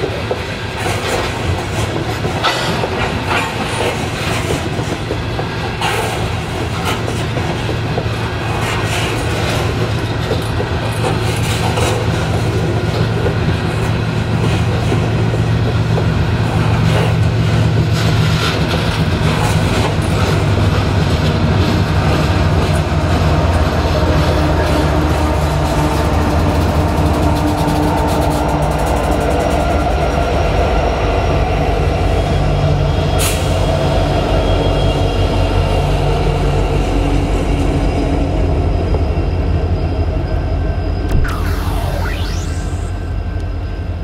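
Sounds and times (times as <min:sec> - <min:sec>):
diesel locomotive engines droning: 0:00.0 - 0:44.0
freight train rolling past: 0:00.0 - 0:44.0.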